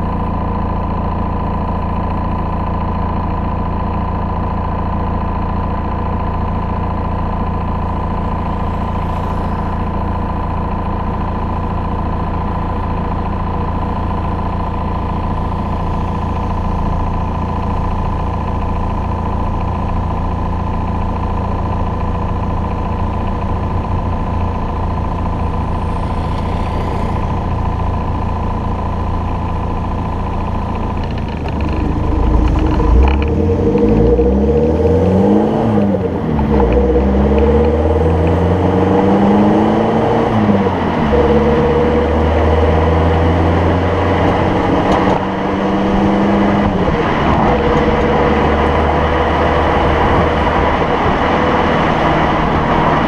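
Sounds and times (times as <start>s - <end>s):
diesel engine idling: 0.0s - 52.4s.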